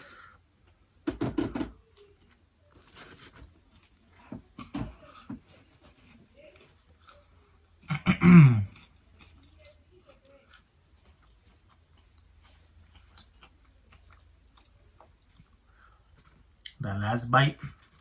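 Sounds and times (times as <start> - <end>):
person chewing food: 1.9 - 16.8, 17.6 - 18.0.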